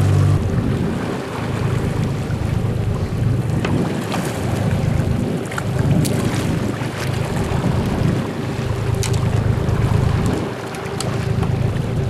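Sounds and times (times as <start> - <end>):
boat engine running: 0.0 - 12.0
water noise: 0.0 - 12.0
wind buffeting microphone: 0.0 - 12.0.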